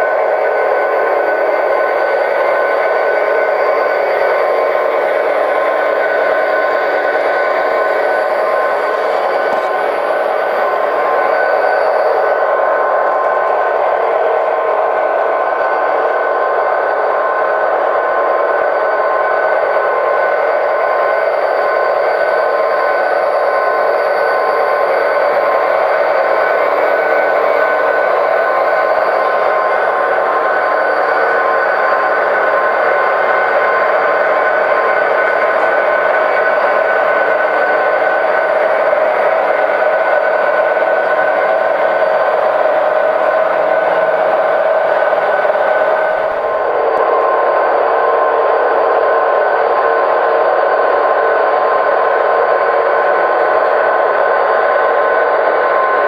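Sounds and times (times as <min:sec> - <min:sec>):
diesel engine drone from small speakers: 0:00.0 - 0:56.0.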